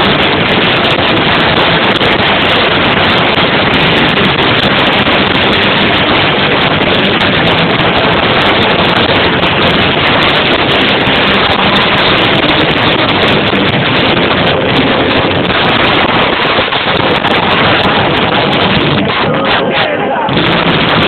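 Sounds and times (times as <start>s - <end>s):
distorted live rock band: 0.0s - 21.0s.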